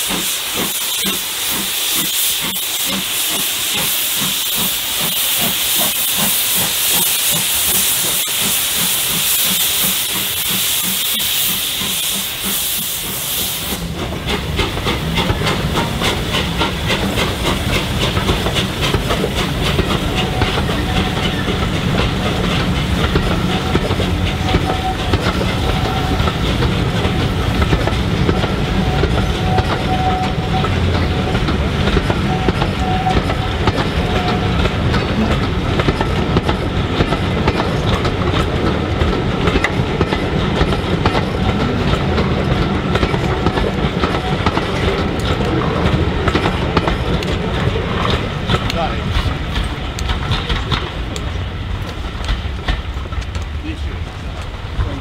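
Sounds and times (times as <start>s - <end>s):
steam locomotive exhaust beat: 0.0s - 55.0s
train wheels clattering over rail joints: 0.0s - 55.0s.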